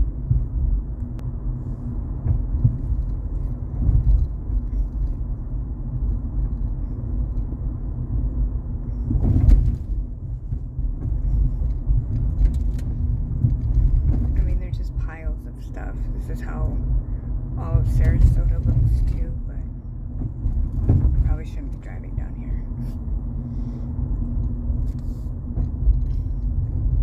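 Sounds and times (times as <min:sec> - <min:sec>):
car road noise: 0:00.0 - 0:27.0.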